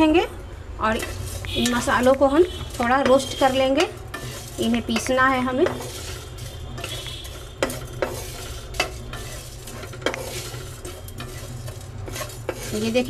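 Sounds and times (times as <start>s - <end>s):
spatula scraping spices in pan: 0.8s - 13.0s.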